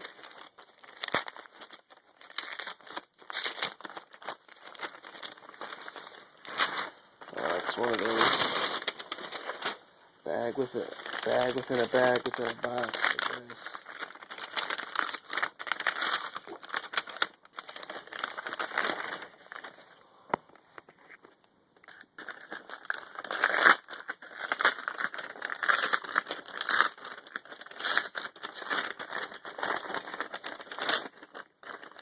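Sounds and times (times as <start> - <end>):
plastic wrapping crinkling: 0.0 - 20.0, 20.8 - 32.0.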